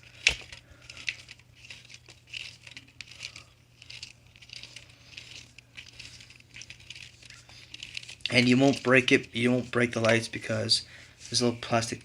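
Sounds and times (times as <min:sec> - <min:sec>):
hands handling plastic wire: 0:00.0 - 0:10.6.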